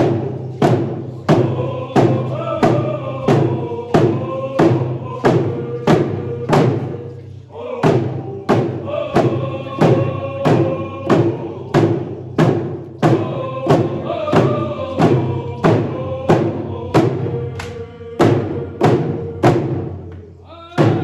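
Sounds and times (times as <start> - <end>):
drums beating steadily: 0.0 - 21.0
group singing in unison: 0.0 - 21.0.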